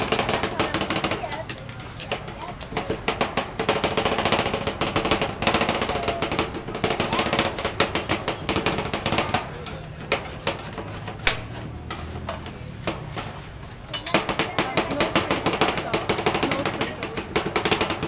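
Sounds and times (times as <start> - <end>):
crowd murmur: 0.0 - 18.0
utensils clattering: 0.0 - 18.0.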